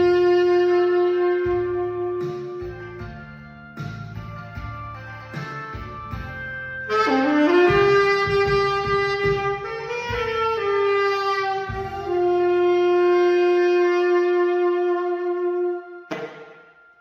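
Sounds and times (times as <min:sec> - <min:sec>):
tenor saxophone: 0:00.0 - 0:03.4, 0:05.9 - 0:16.5
backing track: 0:00.0 - 0:17.0.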